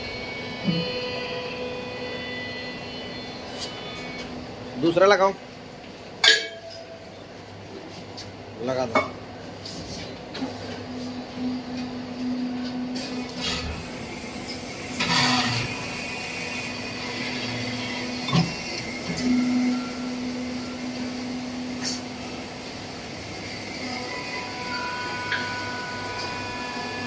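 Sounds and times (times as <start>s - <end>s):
hydraulic motor and pump hum: 0.0s - 27.0s.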